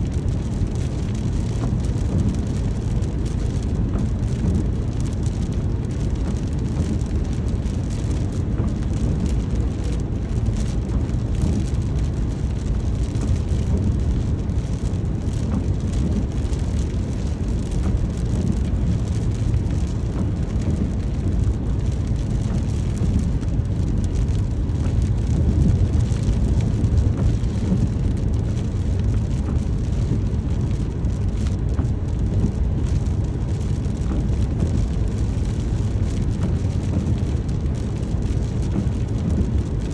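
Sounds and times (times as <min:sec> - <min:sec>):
raindrop ticks: 0:00.0 - 0:39.9
steady rain: 0:00.0 - 0:39.9.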